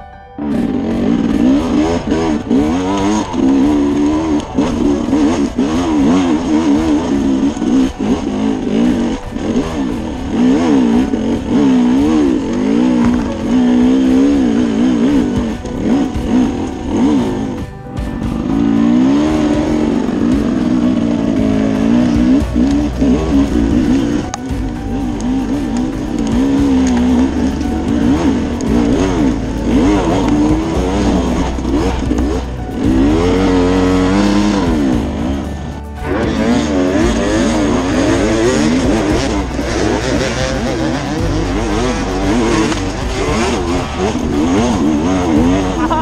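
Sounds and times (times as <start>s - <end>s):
dirt bike engine revving: 0.4s - 46.0s.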